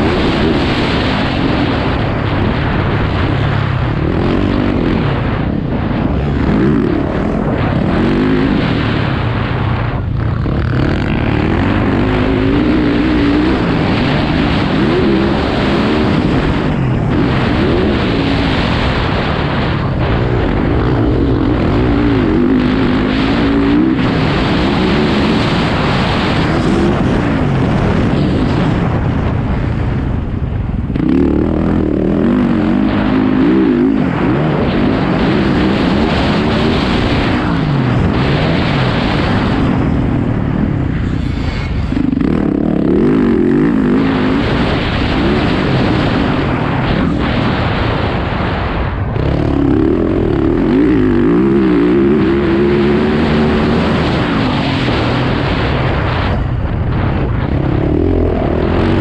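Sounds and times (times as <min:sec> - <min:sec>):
motorbike engine revving: 0:00.0 - 0:59.0
wind rush on camera: 0:00.0 - 0:59.0.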